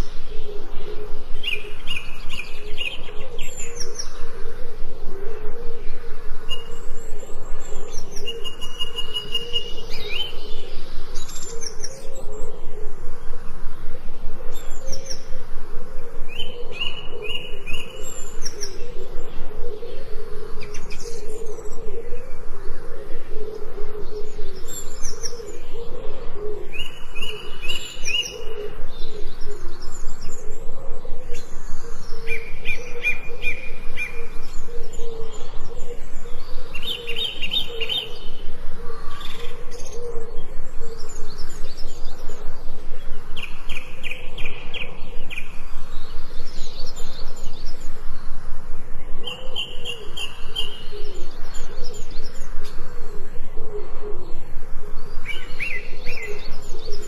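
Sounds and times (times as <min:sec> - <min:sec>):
forest birds singing: 0:00.0 - 0:57.0.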